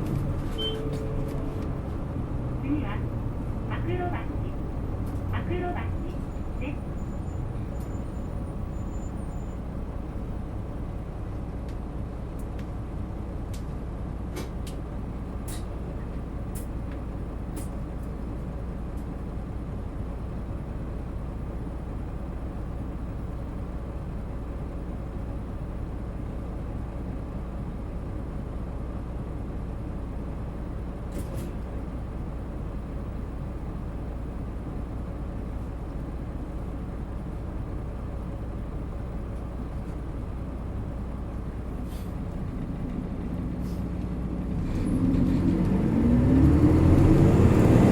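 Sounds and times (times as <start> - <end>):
bus engine rumble: 0.0 - 47.9.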